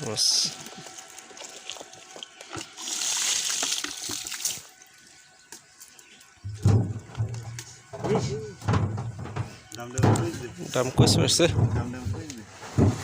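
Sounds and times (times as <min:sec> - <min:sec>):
water splashing and sloshing: 0:00.5 - 0:13.0.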